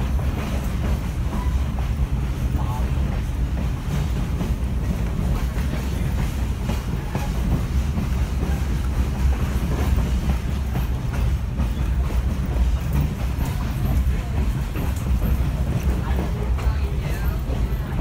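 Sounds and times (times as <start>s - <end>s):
train car rumbling on track: 0.0s - 18.0s
wheels clicking over rail joints: 0.0s - 18.0s.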